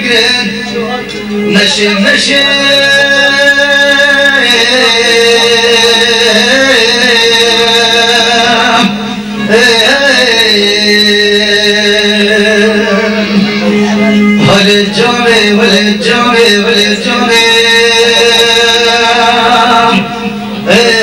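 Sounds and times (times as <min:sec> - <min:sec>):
man singing ornamented notes: 0:00.0 - 0:21.0.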